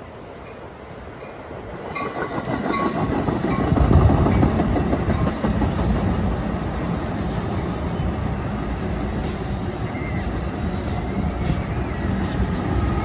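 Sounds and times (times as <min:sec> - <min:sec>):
train wheels rumbling on rails: 0:00.4 - 0:13.0.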